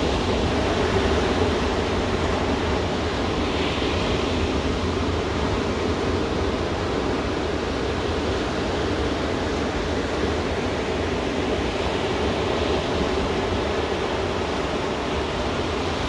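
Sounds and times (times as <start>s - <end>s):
waves washing up a beach: 0.0s - 16.0s.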